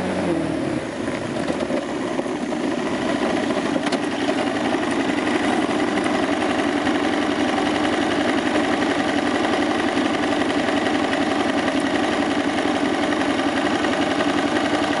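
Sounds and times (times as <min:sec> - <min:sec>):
motorcycle engine idling: 0:00.4 - 0:15.0.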